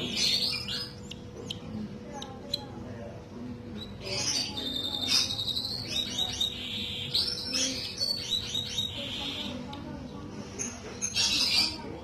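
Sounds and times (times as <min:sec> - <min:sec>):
canaries chirping and trilling: 0:00.0 - 0:02.8, 0:03.6 - 0:12.0.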